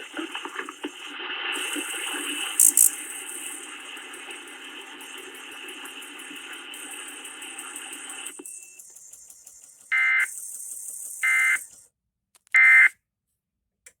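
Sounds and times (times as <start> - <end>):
steady noisy background: 0.0 - 11.8
warbling data tones: 0.0 - 11.8.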